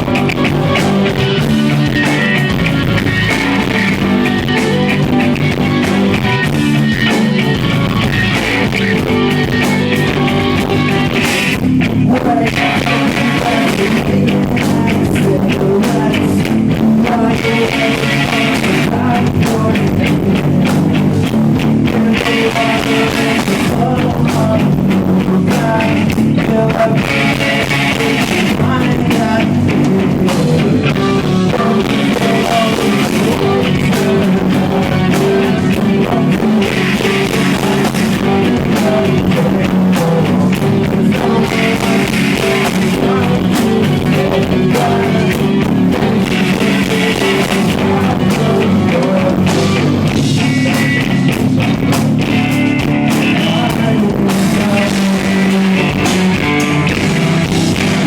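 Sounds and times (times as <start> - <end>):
drum kit: 0.0 - 58.0
electric guitars: 0.0 - 58.0
person singing: 0.0 - 58.0.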